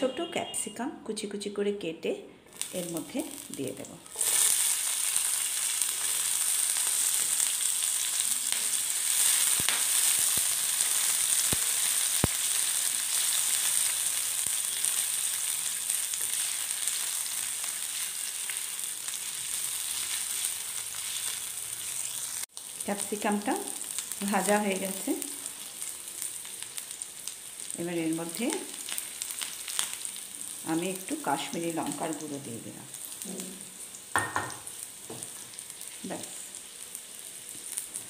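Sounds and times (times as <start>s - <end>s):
vegetables sizzling in hot oil: 2.5s - 38.0s.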